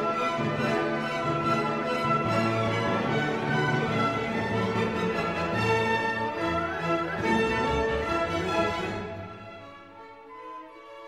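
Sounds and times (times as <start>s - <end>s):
orchestral music with bowed strings: 0.0s - 11.0s.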